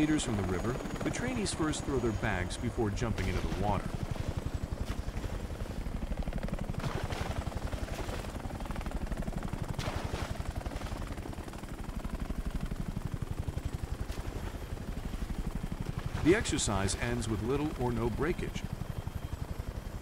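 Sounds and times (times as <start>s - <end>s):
helicopter rotor chopping: 0.0s - 20.0s.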